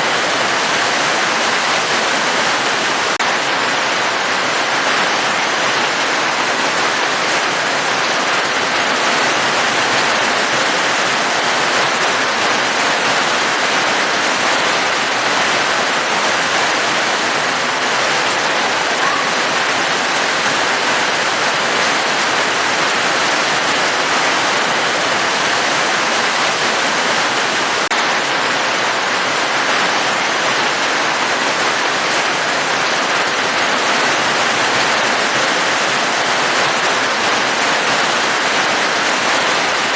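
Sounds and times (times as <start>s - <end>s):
heavily falling water: 0.0s - 39.9s.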